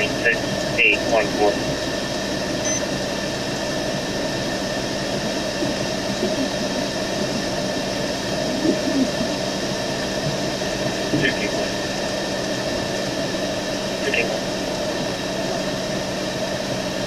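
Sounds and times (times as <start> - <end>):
car engine hum: 0.0 - 17.0
ventilation fan hiss: 0.0 - 17.0.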